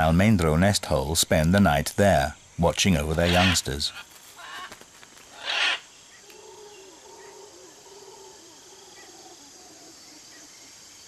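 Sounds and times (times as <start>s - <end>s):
insects humming: 0.0s - 11.0s.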